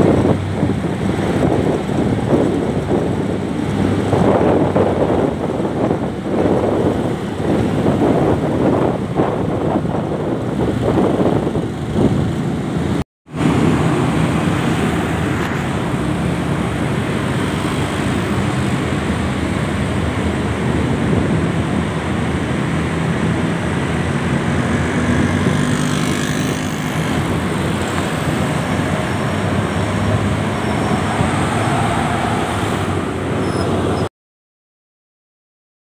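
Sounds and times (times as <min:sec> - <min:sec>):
motorcycles and cars passing: 0:00.0 - 0:34.1.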